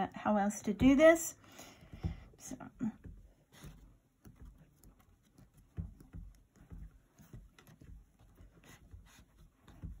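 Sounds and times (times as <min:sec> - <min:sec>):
fingers pressing clay: 0:00.7 - 0:10.0.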